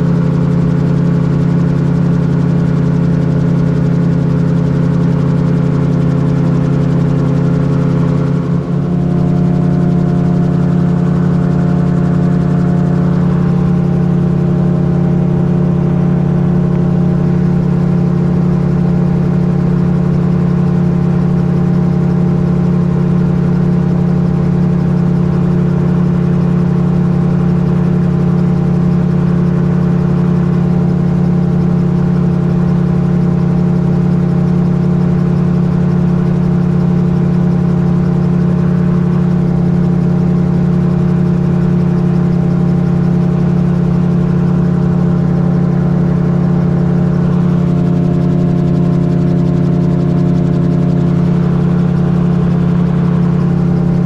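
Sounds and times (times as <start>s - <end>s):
gyrocopter engine and propeller drone: 0.0s - 54.0s.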